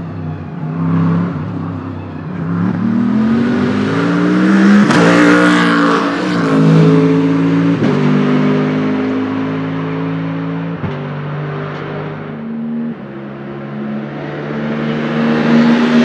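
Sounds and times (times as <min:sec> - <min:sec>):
race car accelerating past: 0:02.4 - 0:16.0.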